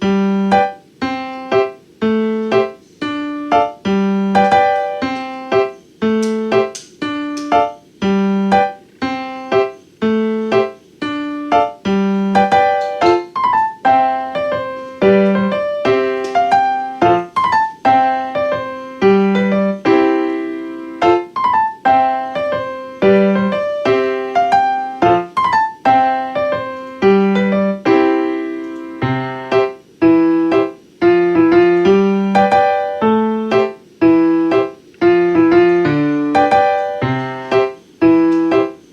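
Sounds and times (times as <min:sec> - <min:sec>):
gentle piano tune: 0:00.0 - 0:38.9.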